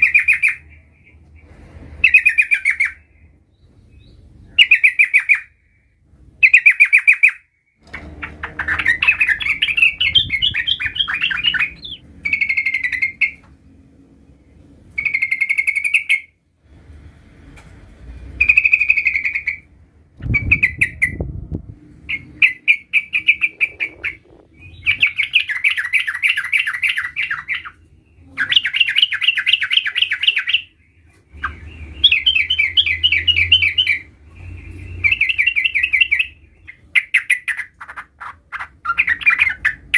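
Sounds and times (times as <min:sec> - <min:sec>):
bird singing trilled phrases: 0:00.0 - 0:01.2, 0:02.0 - 0:05.6, 0:06.4 - 0:13.4, 0:15.0 - 0:16.4, 0:18.4 - 0:21.3, 0:22.0 - 0:39.9.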